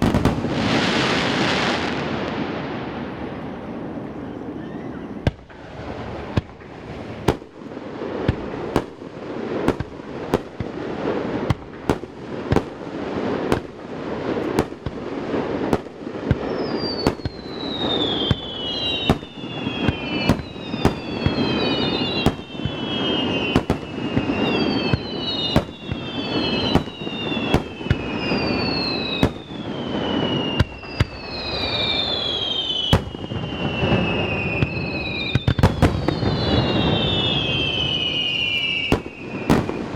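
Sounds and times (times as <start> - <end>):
firework bangs: 0.0 - 39.9
fireworks rumble and crackle: 0.0 - 39.9
firework whistles: 4.2 - 39.9.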